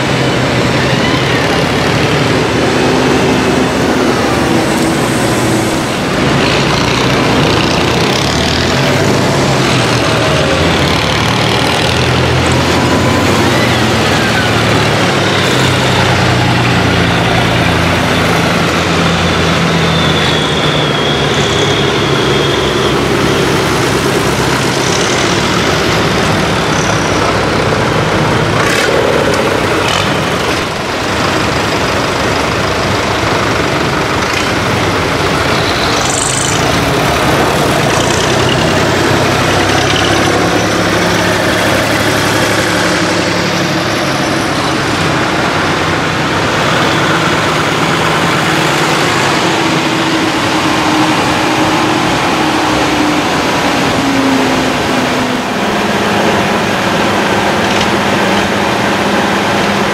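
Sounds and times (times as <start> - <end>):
tractor diesel engines passing: 0.0 - 59.9.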